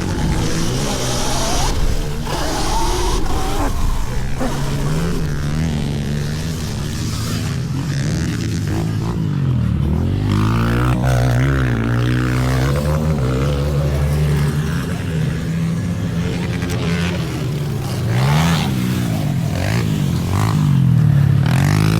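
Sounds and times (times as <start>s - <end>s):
small motorbike engines revving: 0.0s - 21.9s.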